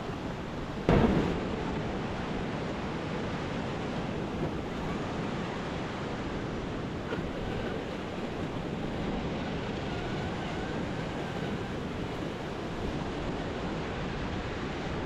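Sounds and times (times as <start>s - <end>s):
waves crashing on shore: 0.0s - 15.0s.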